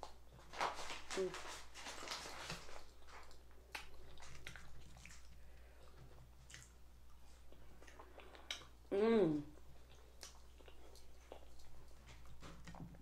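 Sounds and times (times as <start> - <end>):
person chewing: 1.6 - 8.9, 9.5 - 13.0.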